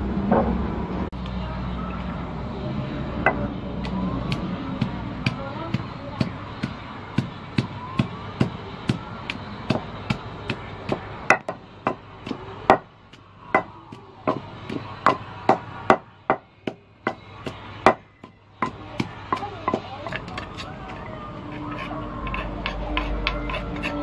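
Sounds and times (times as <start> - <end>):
pestle pounding in wooden mortar: 3.2 - 24.0.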